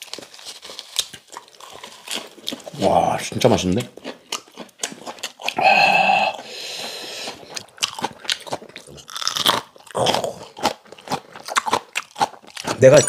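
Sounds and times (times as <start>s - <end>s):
chewing crunchy raw greens: 0.0s - 13.0s.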